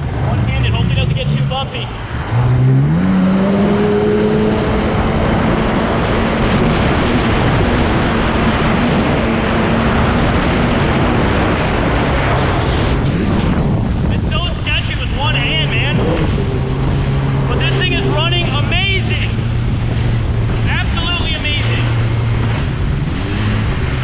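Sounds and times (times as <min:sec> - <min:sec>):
wind on microphone: 0:00.0 - 0:24.0
jet ski engine at high revs: 0:00.2 - 0:24.0.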